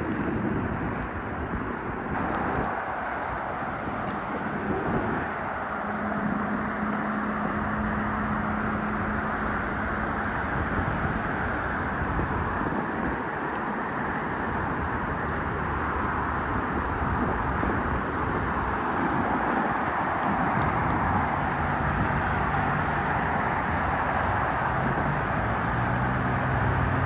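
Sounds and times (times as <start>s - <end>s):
busy road traffic: 0.0s - 27.0s
low engine hum: 0.0s - 27.0s.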